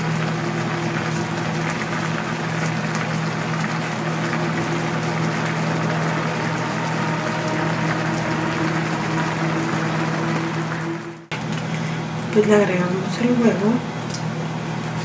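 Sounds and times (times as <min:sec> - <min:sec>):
low hum: 0:00.0 - 0:12.3
sauce boiling and bubbling: 0:00.0 - 0:12.3.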